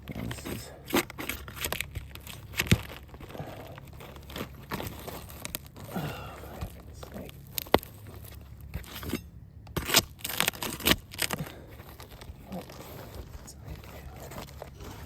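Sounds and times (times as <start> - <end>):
roof shingles crackling and tearing: 0.0 - 15.0.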